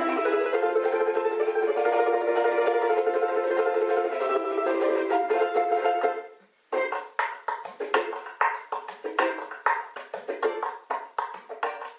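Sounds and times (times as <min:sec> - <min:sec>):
ukulele strumming chords: 0:00.0 - 0:11.9.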